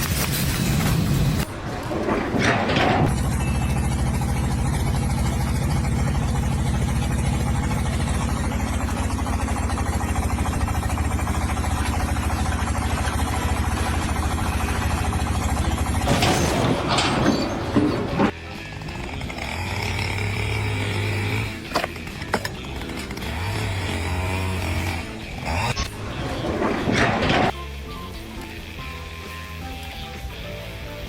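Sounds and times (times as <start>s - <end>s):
engine idling: 0.1s - 29.2s.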